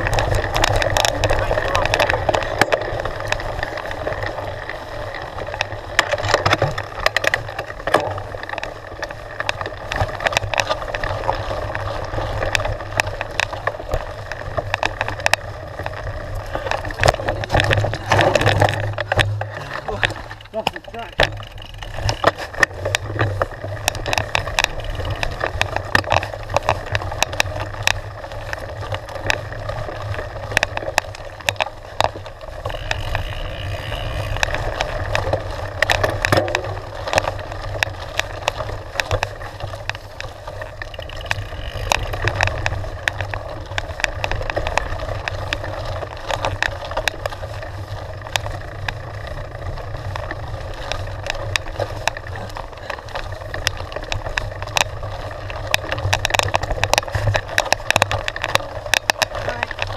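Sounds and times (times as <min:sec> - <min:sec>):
bike rattling: 0:00.0 - 0:59.9
tyres crunching over gravel: 0:00.0 - 0:59.9
sharp clicks and knocks: 0:05.4 - 0:59.9.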